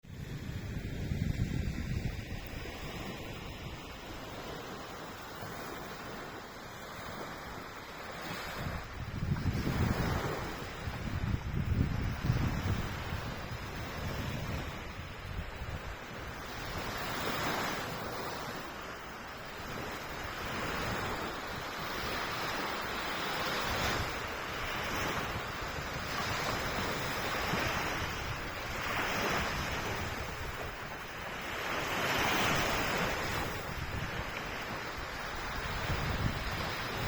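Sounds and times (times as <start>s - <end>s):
wind buffeting microphone: 0.0s - 4.8s, 8.2s - 18.5s, 19.6s - 37.0s
waves washing in: 0.0s - 37.0s.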